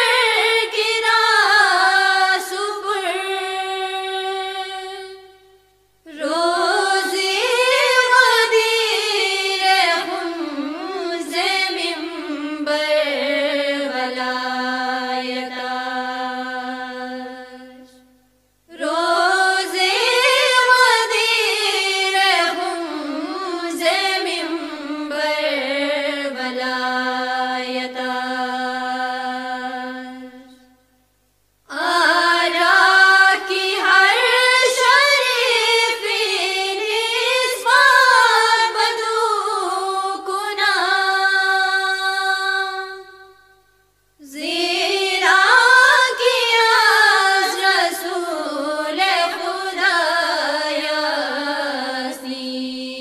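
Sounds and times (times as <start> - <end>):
person singing unaccompanied: 0.0 - 18.1, 18.7 - 30.8, 31.6 - 53.0.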